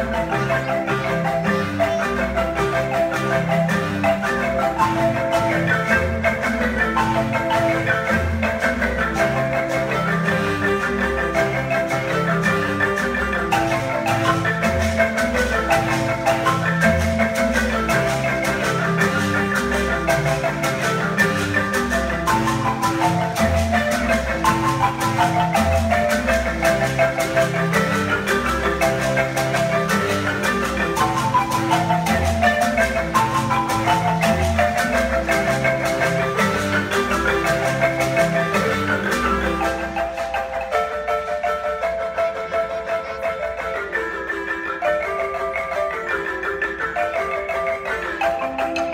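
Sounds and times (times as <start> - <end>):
bass marimba low line: 0.0 - 48.9
marimba ensemble playing: 0.0 - 48.9.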